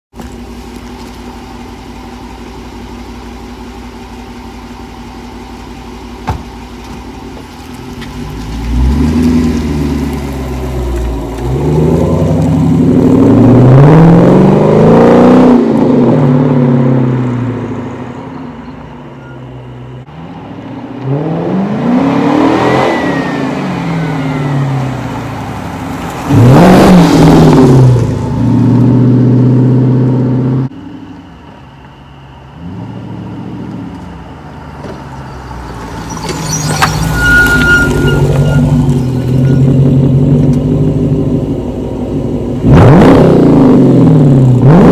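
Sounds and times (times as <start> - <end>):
car engine idling and revving: 0.1 - 44.9.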